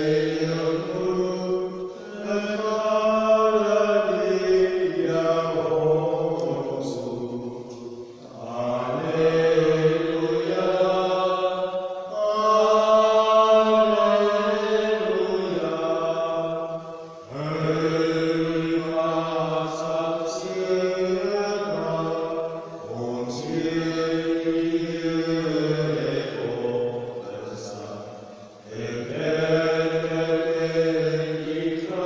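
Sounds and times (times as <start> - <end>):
man chanting: 0.0 - 11.5, 12.1 - 16.4, 17.3 - 32.0.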